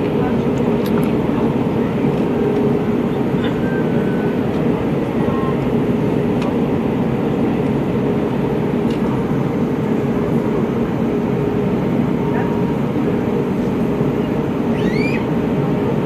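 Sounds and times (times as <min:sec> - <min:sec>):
aircraft engine drone: 0:00.0 - 0:16.0
constant cabin hum: 0:00.0 - 0:16.0.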